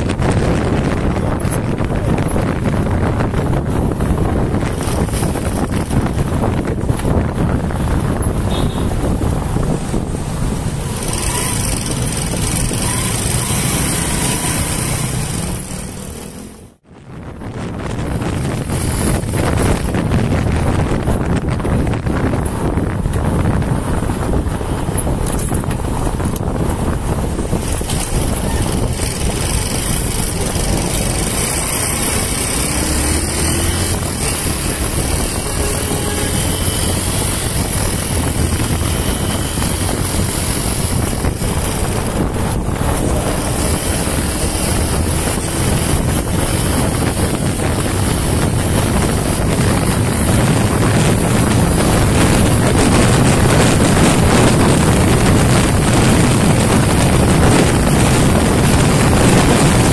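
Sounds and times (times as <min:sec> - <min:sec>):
motorcycle engine running: 0:00.0 - 0:16.6, 0:17.4 - 0:59.9
wind rushing over microphone: 0:00.0 - 0:59.9.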